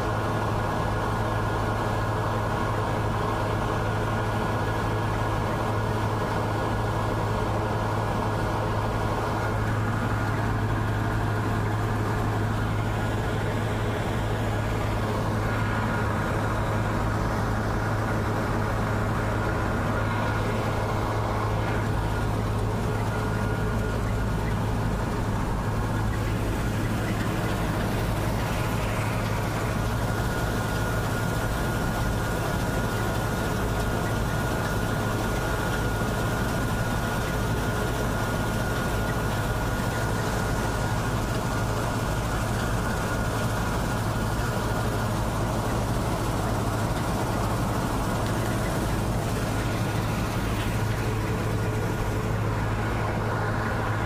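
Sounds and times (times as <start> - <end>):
combine harvester engine hum: 0.0 - 54.0.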